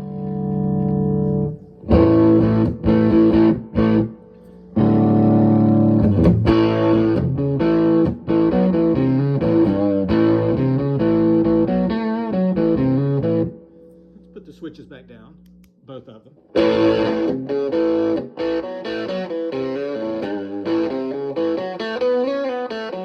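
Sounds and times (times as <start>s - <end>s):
fuzz electric guitar chords: 0.0s - 14.4s, 16.5s - 23.0s.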